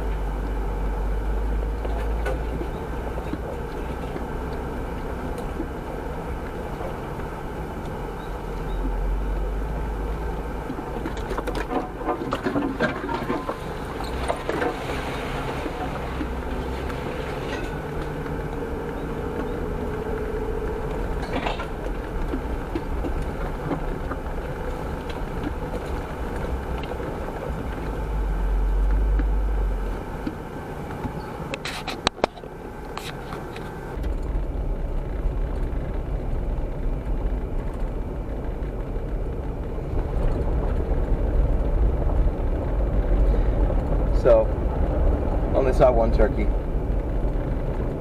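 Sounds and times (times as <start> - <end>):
low rumble: 0.0 - 31.6, 32.4 - 48.0
vehicle driving over rough ground: 0.0 - 48.0
rattles and knocks: 1.6 - 48.0.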